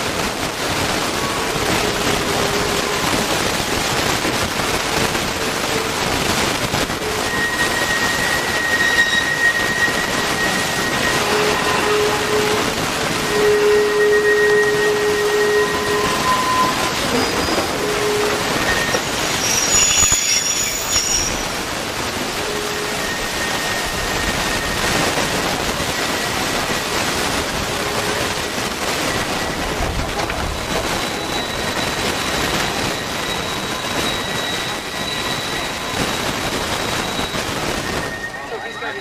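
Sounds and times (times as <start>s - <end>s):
railway car rumbling on track: 0.0s - 39.0s
thin whine: 5.6s - 39.0s
high wheel squeal: 7.0s - 39.0s.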